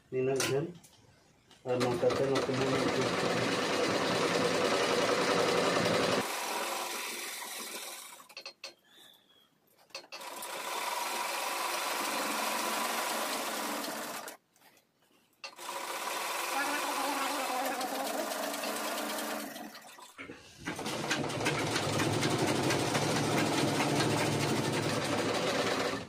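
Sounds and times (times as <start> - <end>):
sewing machines stitching: 1.7 - 8.4, 9.9 - 14.4, 15.5 - 19.9, 20.6 - 26.0.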